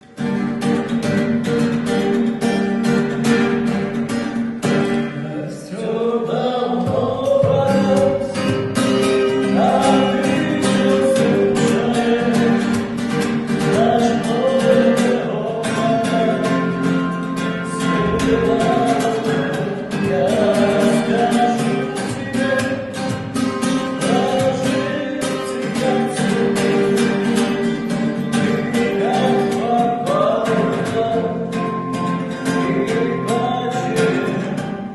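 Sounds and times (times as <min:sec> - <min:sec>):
strummed acoustic guitar: 0:00.0 - 0:34.9
person singing: 0:04.9 - 0:34.9.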